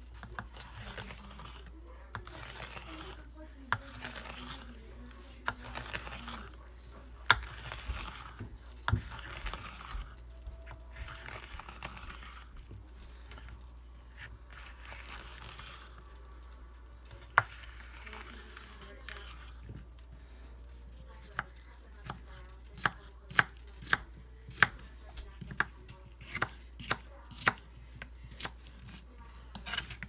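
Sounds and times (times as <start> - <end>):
knife slicing peppers: 0.0 - 6.6, 7.2 - 16.1, 20.5 - 30.0.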